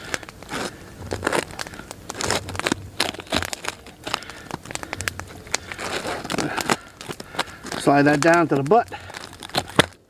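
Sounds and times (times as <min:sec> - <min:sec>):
hatchet crunching through bones: 0:00.0 - 0:10.0.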